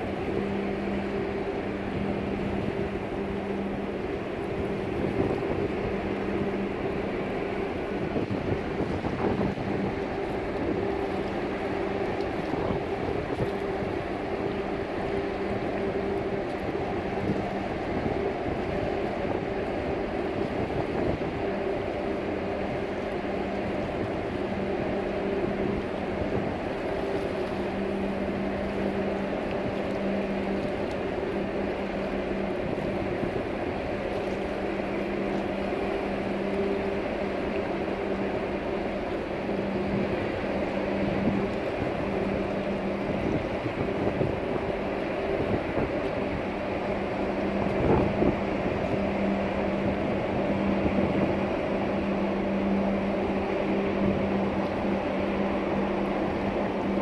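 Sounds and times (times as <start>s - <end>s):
ship engine humming and droning: 0.0s - 57.0s.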